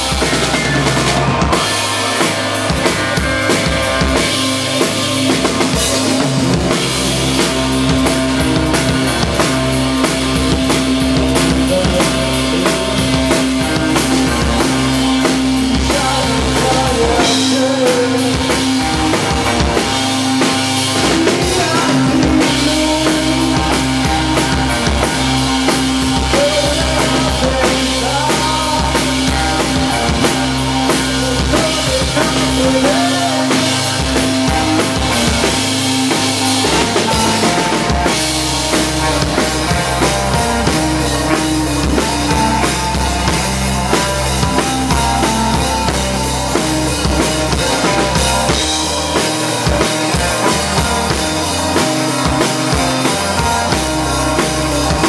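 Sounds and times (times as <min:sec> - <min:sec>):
live band playing: 0:00.0 - 0:55.0.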